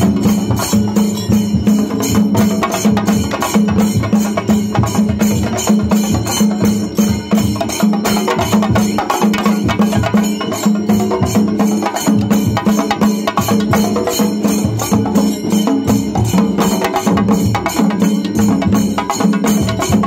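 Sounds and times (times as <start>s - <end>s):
drum ensemble playing: 0.0s - 20.0s.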